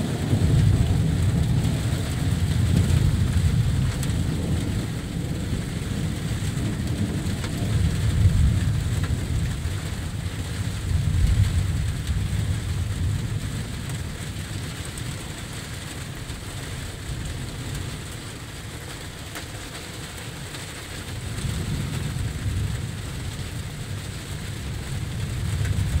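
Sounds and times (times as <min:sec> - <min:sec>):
distant thunder rumbling: 0:00.0 - 0:26.0
light rain: 0:00.0 - 0:26.0.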